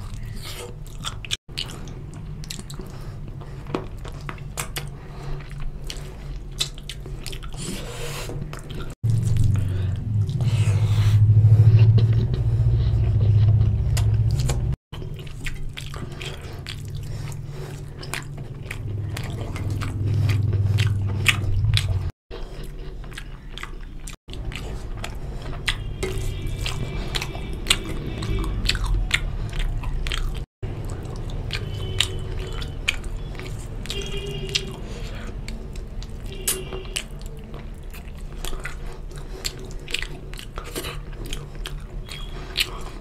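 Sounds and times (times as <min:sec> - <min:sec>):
wet chewing with mouth clicks: 0:00.0 - 0:43.0.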